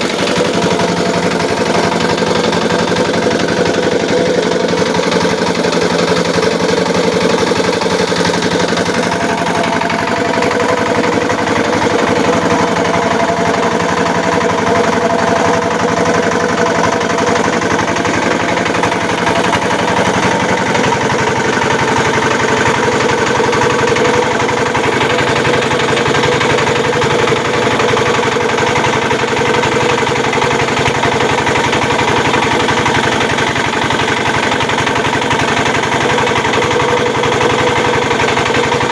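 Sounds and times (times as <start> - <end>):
grinding machine engine running: 0.0 - 38.9.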